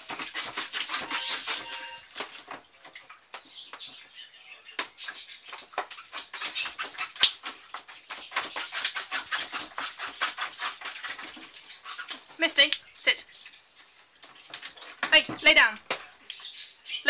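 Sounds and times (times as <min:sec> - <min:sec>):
puppy splashing in water: 0:00.0 - 0:03.5, 0:05.0 - 0:12.7, 0:13.3 - 0:16.5.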